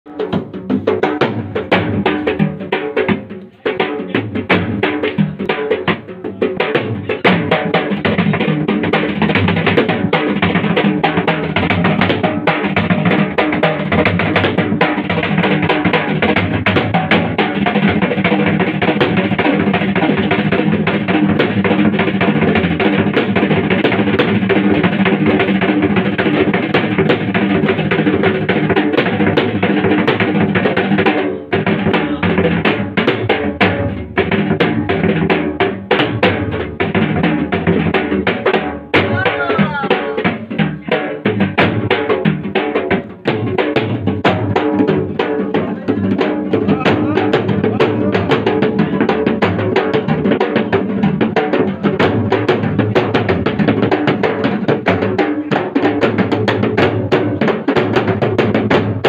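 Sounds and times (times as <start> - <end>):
barrel drums played fast: 0.1 - 59.0.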